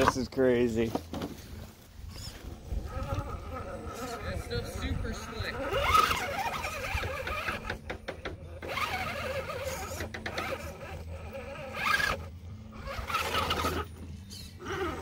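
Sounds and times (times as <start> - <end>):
toy car motor whining: 2.0 - 15.0.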